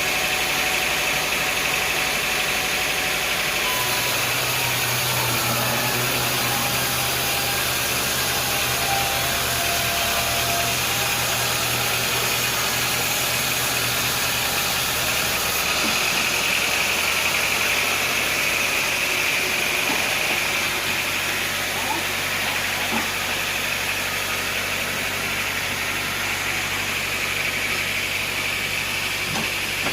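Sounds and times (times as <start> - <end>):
sawmill machinery running: 0.0 - 29.9.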